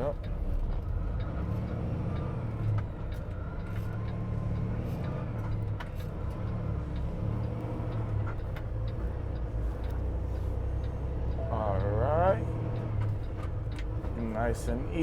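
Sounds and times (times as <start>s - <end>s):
truck diesel engine drone: 0.0s - 15.0s.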